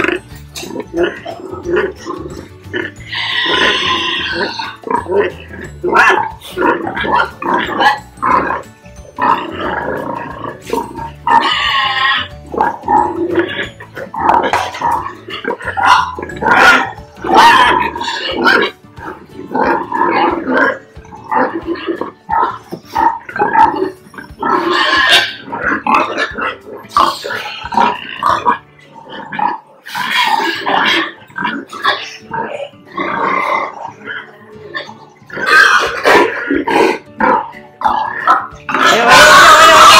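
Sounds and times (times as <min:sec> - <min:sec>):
pig high call: 0:00.0 - 0:08.6, 0:09.2 - 0:28.6, 0:29.2 - 0:39.9
background music: 0:00.0 - 0:39.9
pigs grunting: 0:00.0 - 0:39.9.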